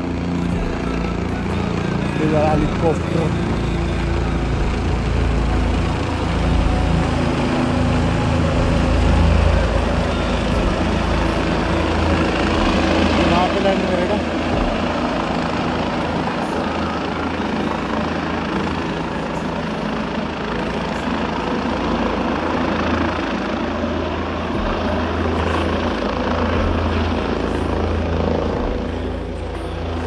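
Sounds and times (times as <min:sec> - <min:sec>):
helicopter rotor whir: 0:00.0 - 0:30.0.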